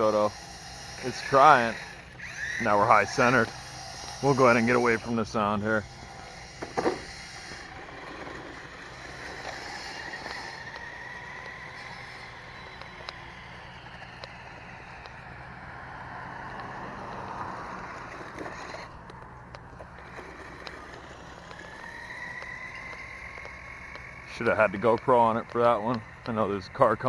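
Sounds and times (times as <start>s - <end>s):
steady low hum: 0.0s - 27.0s
toy truck motor whining: 0.0s - 27.0s.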